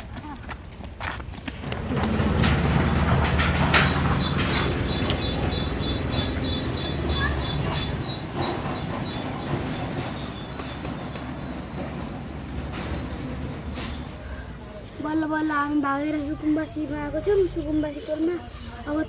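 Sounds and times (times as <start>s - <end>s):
vehicle low rumble: 0.0s - 18.0s.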